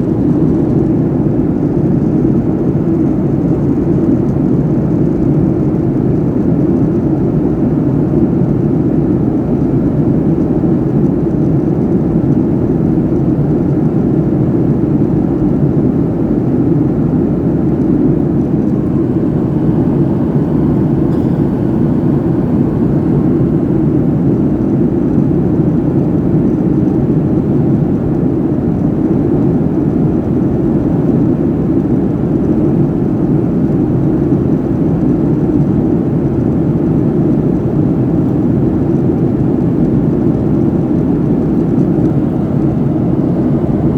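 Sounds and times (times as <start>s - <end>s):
jet airliner cabin noise: 0.0s - 43.9s.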